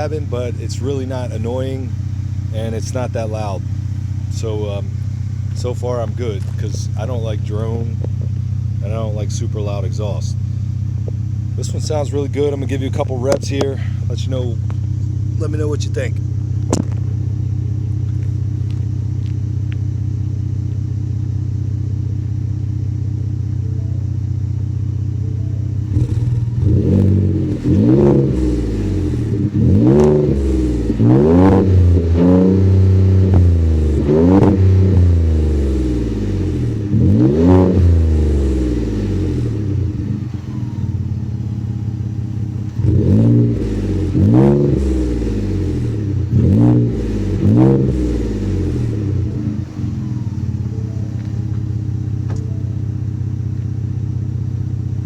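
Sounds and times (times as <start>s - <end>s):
engine revving in throttle blips: 0.0s - 55.0s
truck engine idling: 0.0s - 55.0s.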